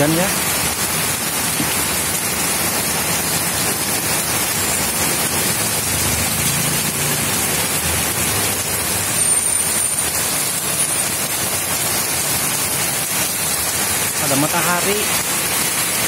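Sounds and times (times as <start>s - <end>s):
heavy rain on wet pavement: 0.0s - 16.0s.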